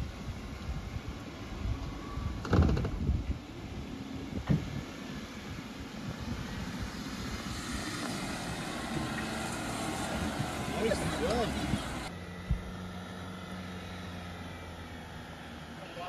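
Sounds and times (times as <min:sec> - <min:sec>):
vehicle engine running low: 0:00.0 - 0:16.0.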